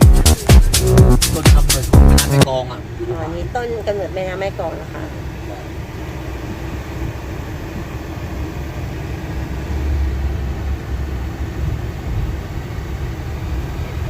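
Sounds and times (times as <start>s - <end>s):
car engine and tyre rumble: 2.5s - 14.0s.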